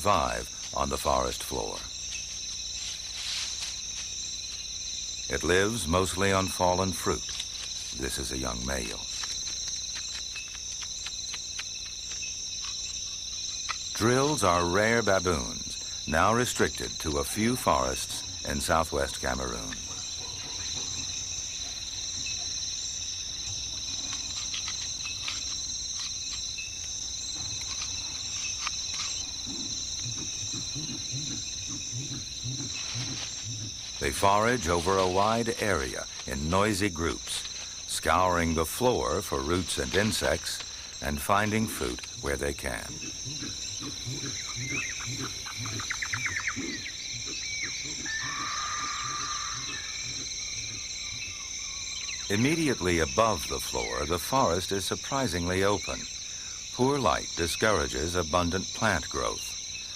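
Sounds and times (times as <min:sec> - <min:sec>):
insect chorus high buzzing: 0:00.0 - 0:59.9.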